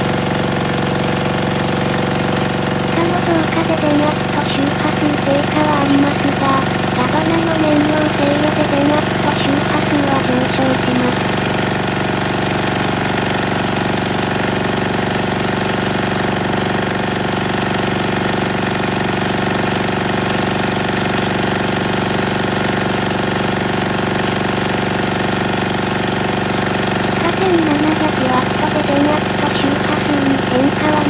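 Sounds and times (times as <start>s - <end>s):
diesel generator running: 0.0s - 31.0s.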